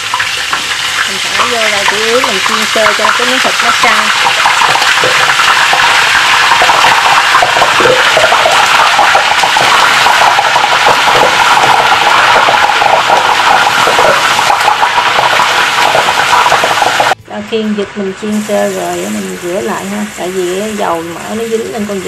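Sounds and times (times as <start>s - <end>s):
meat sizzling in hot oil: 0.0s - 17.2s, 18.2s - 22.0s.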